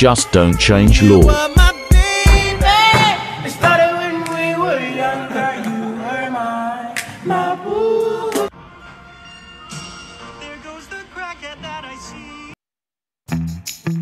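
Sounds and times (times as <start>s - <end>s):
music with singing: 0.0s - 8.6s, 9.7s - 12.6s.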